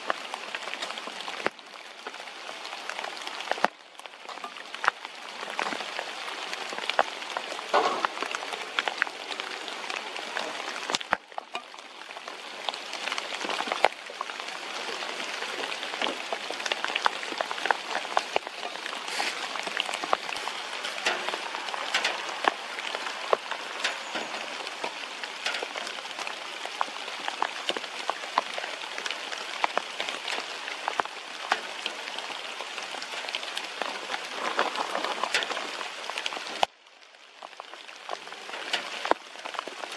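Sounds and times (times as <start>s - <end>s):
raindrops striking close: 0.0s - 39.9s
steady rain falling: 0.0s - 39.9s.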